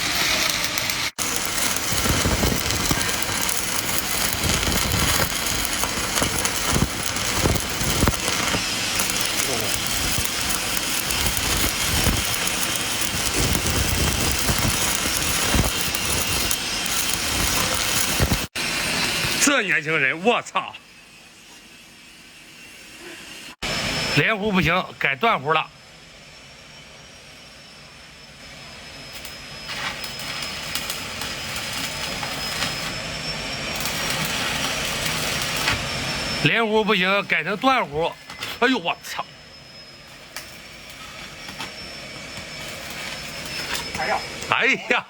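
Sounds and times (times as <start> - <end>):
welding arc crackling hiss: 0.0 - 20.6, 29.1 - 45.0
high whine: 0.0 - 45.0.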